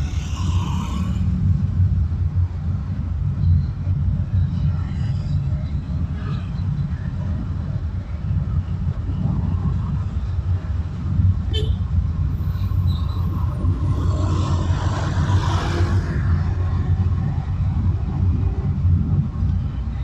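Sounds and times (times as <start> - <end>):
engine and tyres rumble: 0.0 - 20.0.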